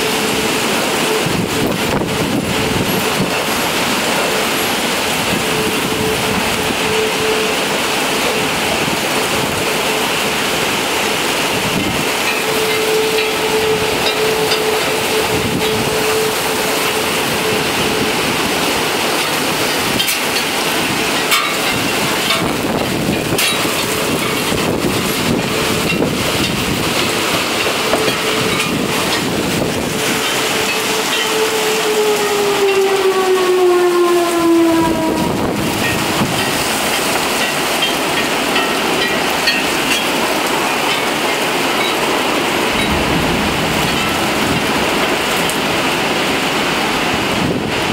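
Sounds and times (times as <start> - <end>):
rain drops ticking: 0.0 - 33.6, 35.2 - 47.9
distant horn tone: 0.0 - 39.5, 41.8 - 46.8
heavy rain: 0.0 - 47.9.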